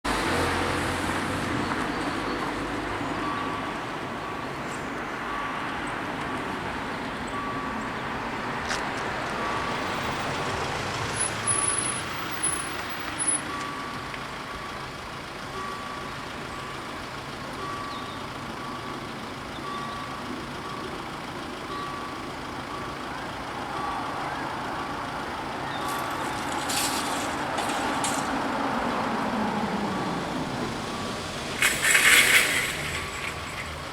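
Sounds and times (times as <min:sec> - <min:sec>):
road traffic: 0:00.0 - 0:33.9
level crossing warning bell: 0:02.1 - 0:33.9.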